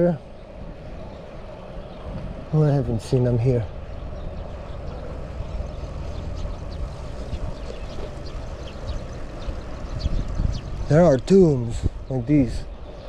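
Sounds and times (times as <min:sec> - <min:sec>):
bike tyres humming on road: 0:00.0 - 0:13.0
wind rumbling over microphone: 0:00.2 - 0:13.0.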